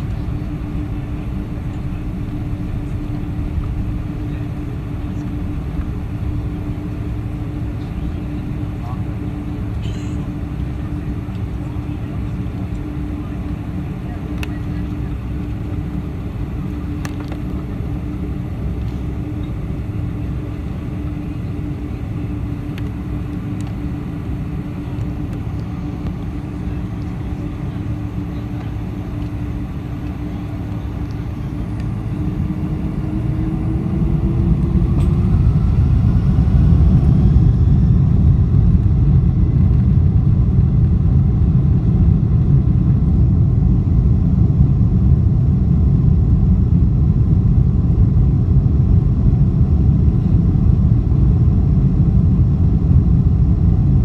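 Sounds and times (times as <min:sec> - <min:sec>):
jet engines humming and rumbling: 0:00.0 - 0:54.0
jet engines spooling up whine: 0:00.0 - 0:54.0.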